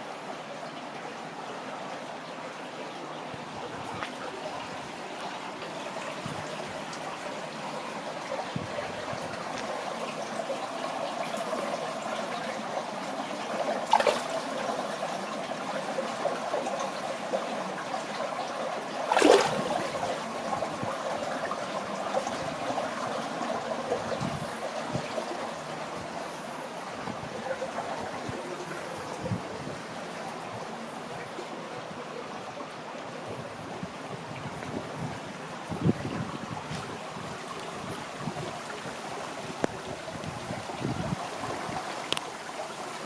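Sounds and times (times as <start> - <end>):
water gurgling in a channel: 0.0 - 43.0
water splashes: 0.9 - 43.0.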